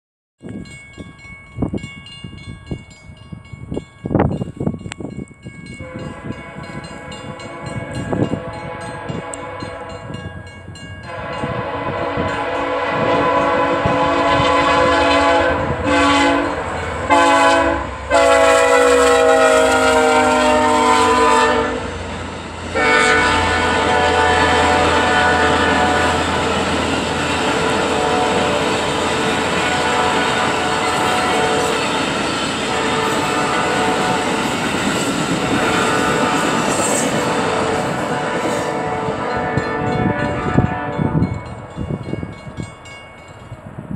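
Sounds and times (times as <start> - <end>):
train rumbling past: 0.6 - 43.9
train horn blasts: 5.8 - 22.0, 22.7 - 41.7.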